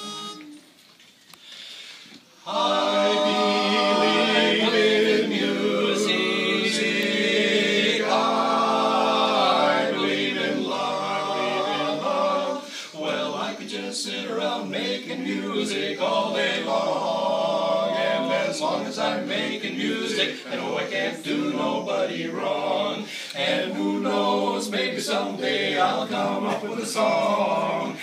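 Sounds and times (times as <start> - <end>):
male vocal quartet singing: 2.4 - 28.0.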